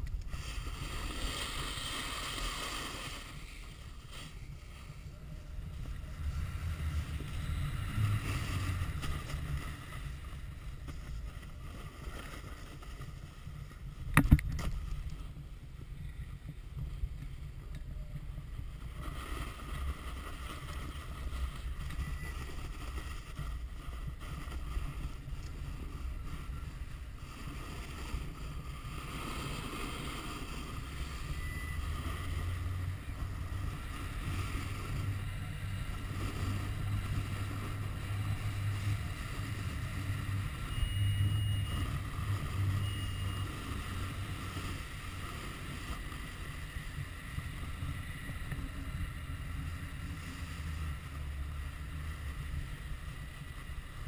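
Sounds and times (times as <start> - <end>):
snowboard sliding over snow: 0.0 - 54.0
wind rushing over microphone: 0.0 - 54.0.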